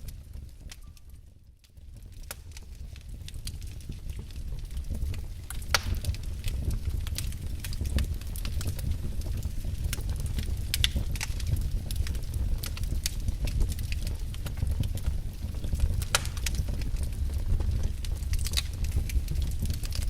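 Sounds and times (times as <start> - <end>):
logs crackling and popping: 0.0 - 20.0
low rumble of flame: 0.0 - 20.0.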